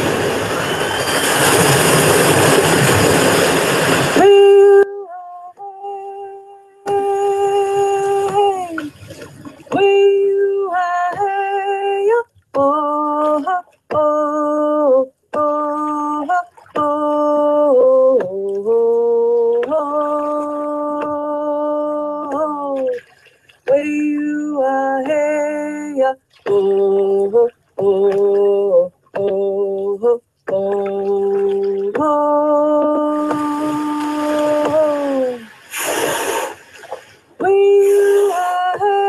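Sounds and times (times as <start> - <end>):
woman singing unaccompanied: 4.2 - 35.7, 37.4 - 39.0.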